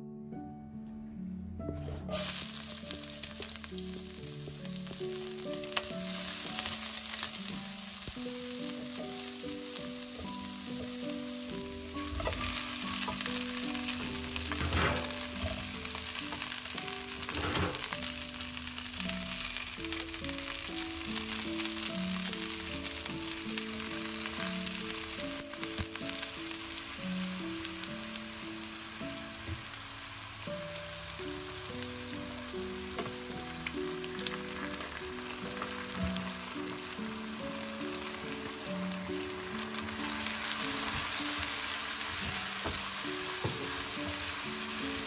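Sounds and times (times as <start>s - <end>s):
soft plucked background music: 0.0s - 45.0s
hot oil sizzling in frying pan: 2.1s - 45.0s.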